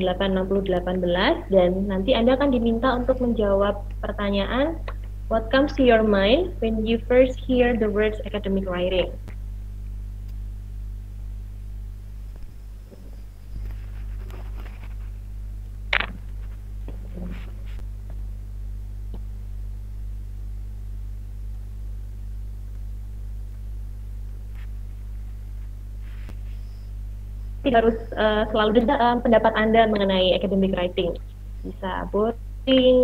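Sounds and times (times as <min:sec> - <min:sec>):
low electrical mains hum: 0:00.0 - 0:33.0.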